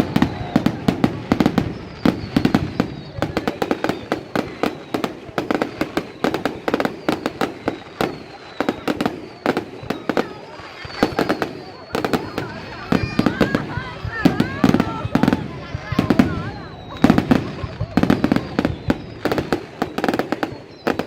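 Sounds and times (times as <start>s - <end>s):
faint falling whistle: 0.0s - 21.0s
fireworks popping and banging: 0.0s - 21.0s.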